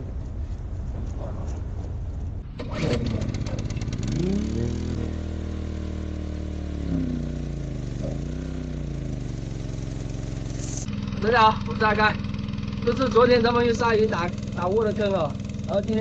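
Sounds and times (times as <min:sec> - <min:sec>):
small engine starting and running: 0:02.5 - 0:16.0.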